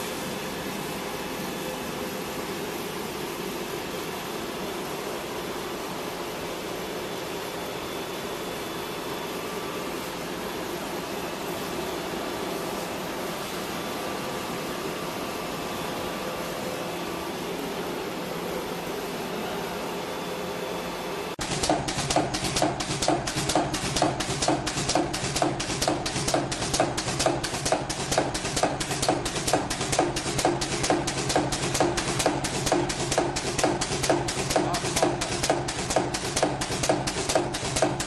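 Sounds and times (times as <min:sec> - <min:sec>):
machinery humming: 0:00.0 - 0:38.0.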